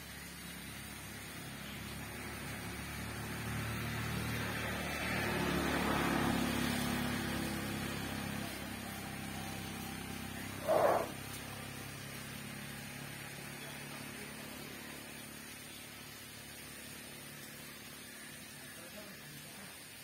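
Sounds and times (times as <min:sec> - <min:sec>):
road noise: 0:00.0 - 0:20.0
vehicle engine hum: 0:00.0 - 0:20.0.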